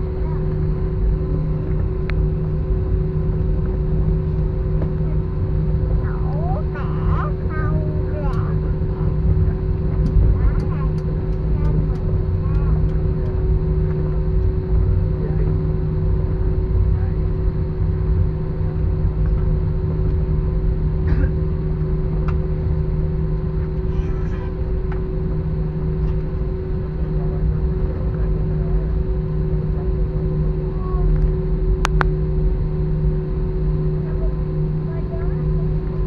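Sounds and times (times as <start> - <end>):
airliner engine rumble: 0.0 - 36.0
constant cabin hum: 0.0 - 36.0.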